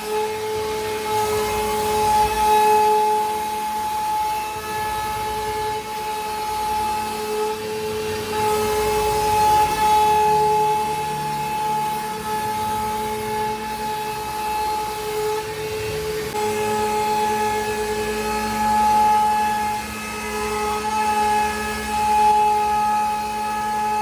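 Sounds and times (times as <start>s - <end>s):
router bit cutting wood: 0.0s - 24.0s
router spindle whining: 0.0s - 24.0s.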